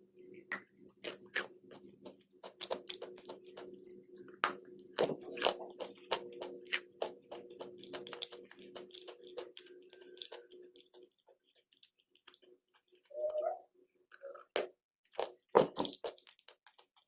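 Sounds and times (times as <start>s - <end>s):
crunchy biting and chewing: 0.5s - 13.1s, 14.3s - 17.0s.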